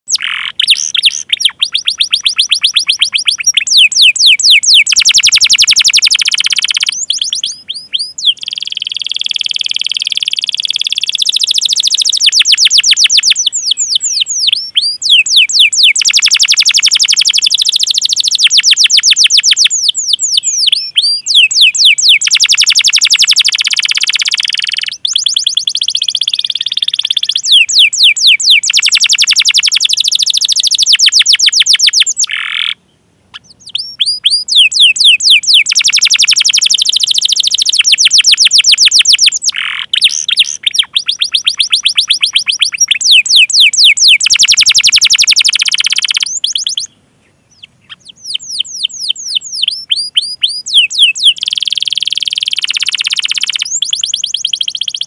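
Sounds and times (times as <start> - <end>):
canary singing trills: 0.1 - 55.0.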